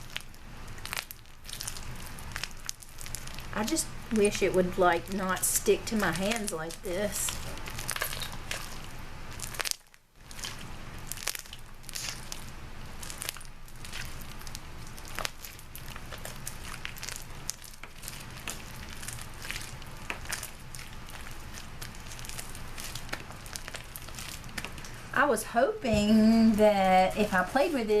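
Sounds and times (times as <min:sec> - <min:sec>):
slime squished with crackles: 0:00.0 - 0:25.1.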